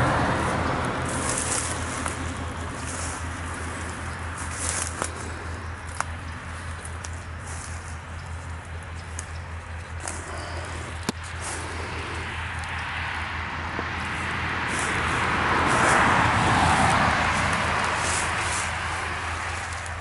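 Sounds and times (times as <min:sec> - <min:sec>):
car passing with tyre noise: 0:00.0 - 0:20.0.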